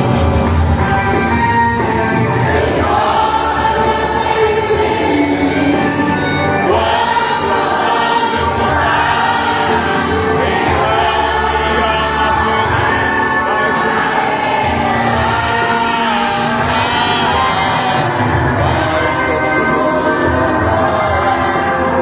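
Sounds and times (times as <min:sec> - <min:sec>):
choir singing a hymn: 0:00.0 - 0:22.0
musical accompaniment: 0:00.0 - 0:22.0.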